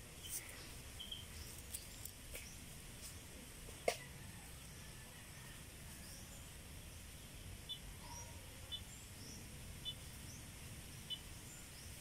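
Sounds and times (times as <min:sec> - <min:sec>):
birds chirping: 0:00.0 - 0:04.0, 0:04.6 - 0:12.0.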